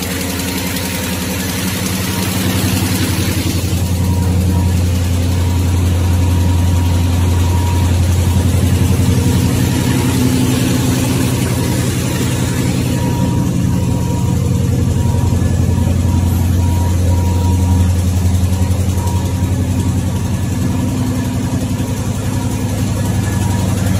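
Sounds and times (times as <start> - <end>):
faint machine whine: 0.0 - 23.9
machine hum with mechanical beat: 0.0 - 23.9.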